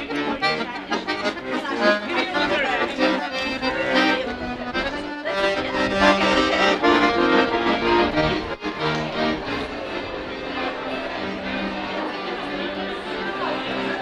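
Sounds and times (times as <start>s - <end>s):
accordion playing: 0.0s - 14.0s.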